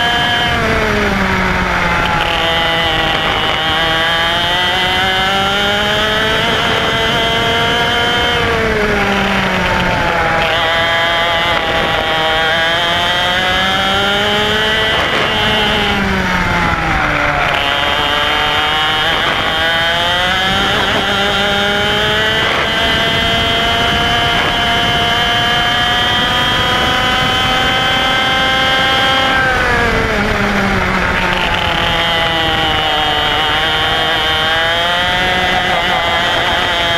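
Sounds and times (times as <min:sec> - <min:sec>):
kart engine revving: 0:00.0 - 0:36.9.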